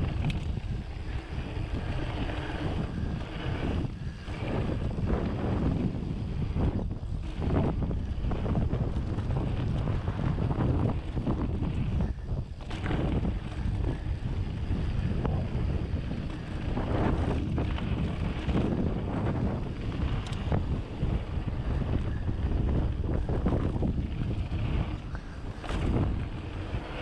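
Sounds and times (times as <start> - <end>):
bike tyres on gravel: 0.0 - 27.0
wind buffeting microphone: 0.0 - 27.0.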